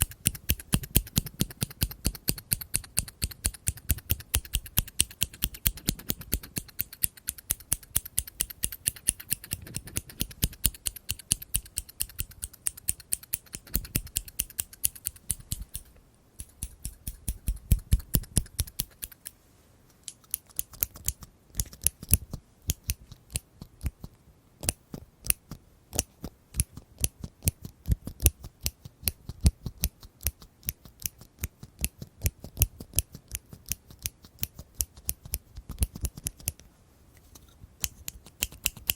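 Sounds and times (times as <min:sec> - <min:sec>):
scissors snipping: 0:00.0 - 0:19.4, 0:20.0 - 0:24.0, 0:24.6 - 0:36.6, 0:37.4 - 0:38.9.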